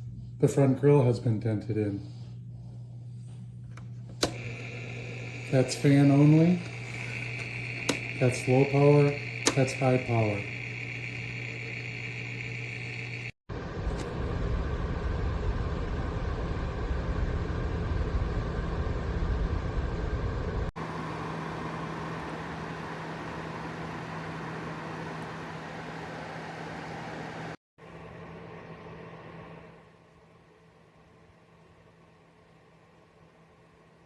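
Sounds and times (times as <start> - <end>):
space heater fan blowing: 0.0 - 31.7.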